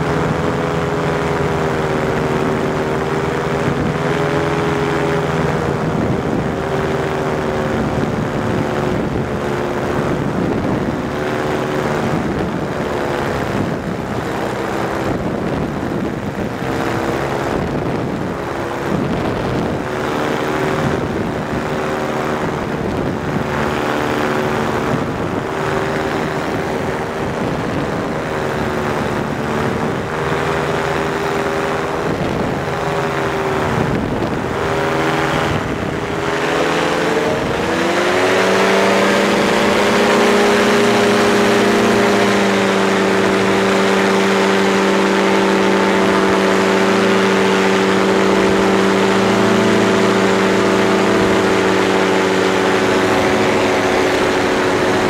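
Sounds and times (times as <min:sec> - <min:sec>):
engine and propeller running: 0:00.0 - 0:55.0.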